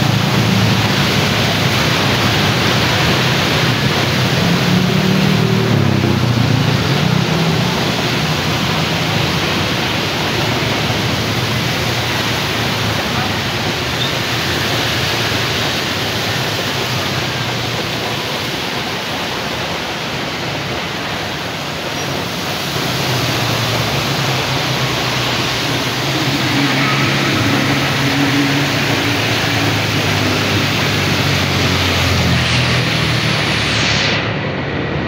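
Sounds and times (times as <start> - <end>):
motor scooters passing: 0.0 - 35.0
rain and tyres on wet road: 0.0 - 35.0.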